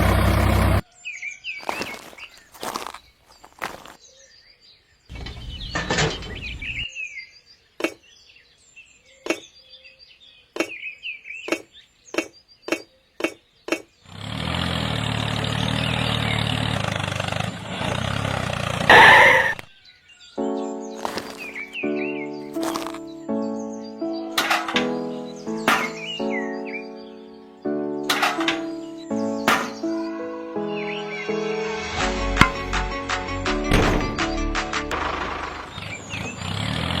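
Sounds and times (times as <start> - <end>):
birds chirping: 0.0 - 33.0, 33.6 - 37.0.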